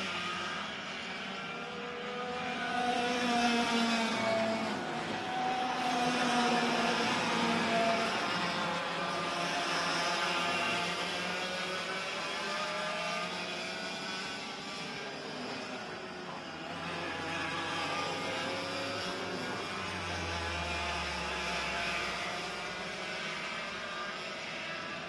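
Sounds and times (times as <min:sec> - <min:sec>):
kart engines racing at high revs: 0:00.0 - 0:25.0.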